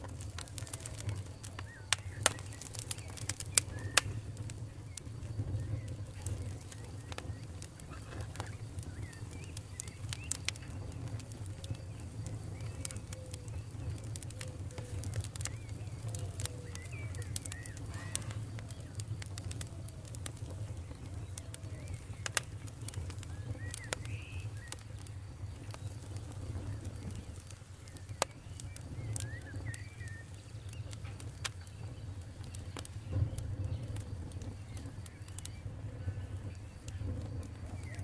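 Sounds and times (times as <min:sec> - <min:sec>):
crackles and pops of burning wood: 0:00.0 - 0:38.0
roar of flame: 0:00.0 - 0:38.0.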